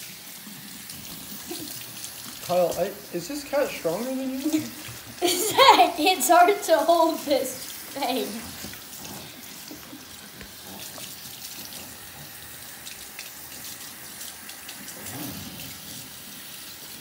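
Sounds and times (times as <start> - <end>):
faucet water spraying into sink: 0.0 - 17.0.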